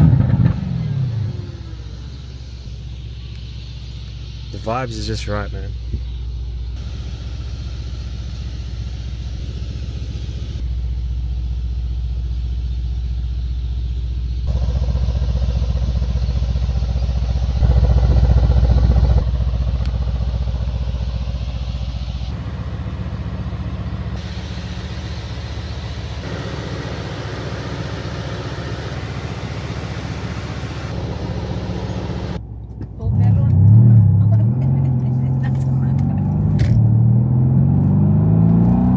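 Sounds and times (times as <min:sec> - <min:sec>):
car engine low drone: 0:00.0 - 0:38.9
road noise inside car: 0:00.0 - 0:38.9.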